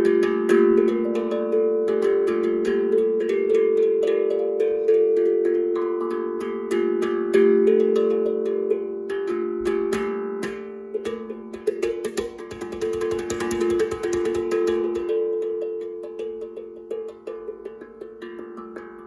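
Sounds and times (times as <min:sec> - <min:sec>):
steel tongue drum notes: 0:00.0 - 0:19.0.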